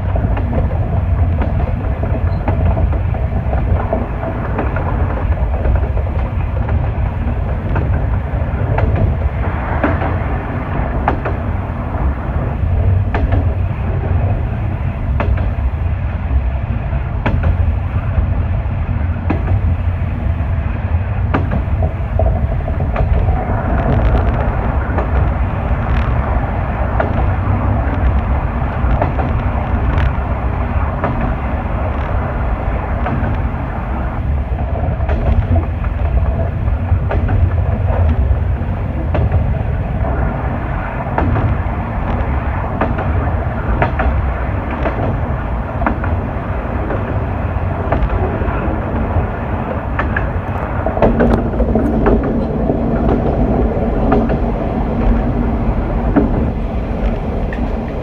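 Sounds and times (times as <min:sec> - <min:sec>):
wheels clicking over rail joints: 0:00.0 - 0:16.0, 0:16.8 - 0:58.0
diesel railcar engine and wheel rumble: 0:00.0 - 0:58.0.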